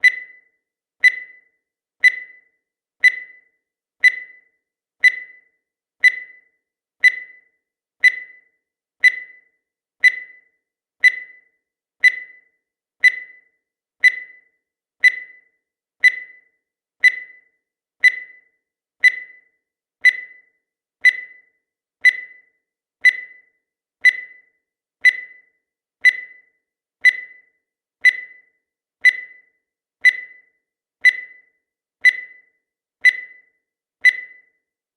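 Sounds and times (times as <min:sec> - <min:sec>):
countdown timer ticking: 0:00.0 - 0:34.7.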